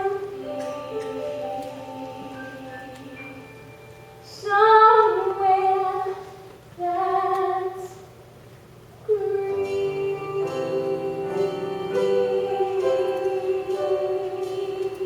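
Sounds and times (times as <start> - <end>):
woman singing: 0.0 - 3.6, 4.2 - 8.0, 9.1 - 15.0
instrumental accompaniment: 0.0 - 6.2, 9.1 - 15.0.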